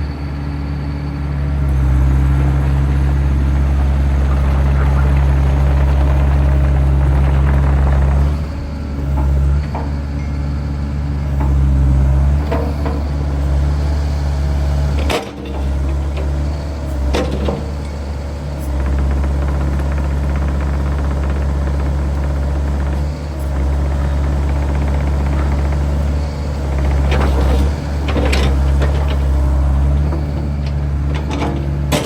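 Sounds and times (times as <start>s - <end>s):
excavator diesel engine working: 0.0s - 32.0s.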